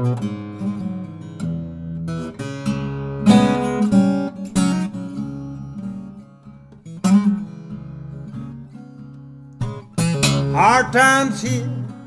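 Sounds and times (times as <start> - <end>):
acoustic guitar playing blues: 0.0 - 12.0.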